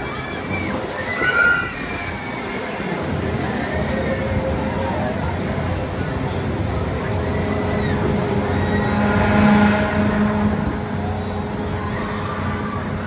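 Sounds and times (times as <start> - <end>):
fairground ride machine hum: 0.0 - 13.0.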